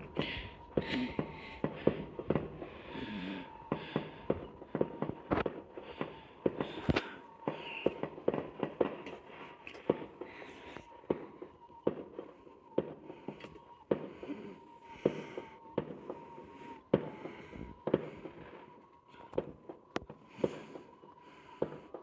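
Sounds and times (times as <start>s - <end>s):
fireworks bangs and pops: 0.0s - 22.0s.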